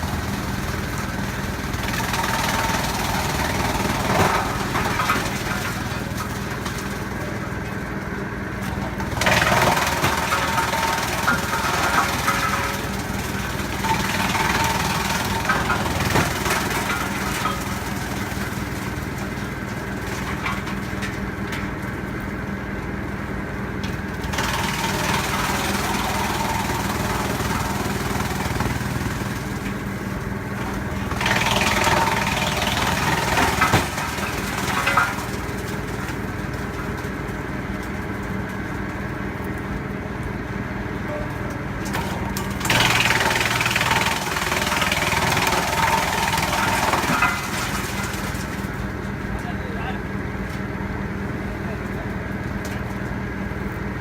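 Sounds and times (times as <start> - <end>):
wood chipper engine running: 0.0 - 54.0.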